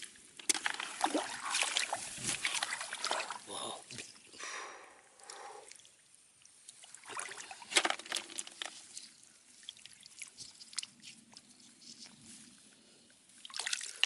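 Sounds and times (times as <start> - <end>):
water trickling and splashing: 0.0 - 4.3, 5.2 - 14.0.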